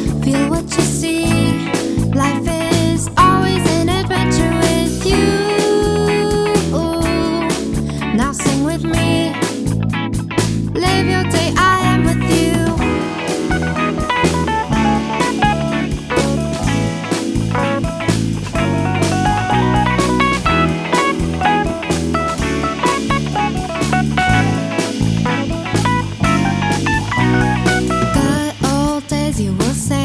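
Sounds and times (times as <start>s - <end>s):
guitar melody: 0.0s - 28.8s
bass: 0.0s - 30.0s
drum kit beat: 0.0s - 30.0s.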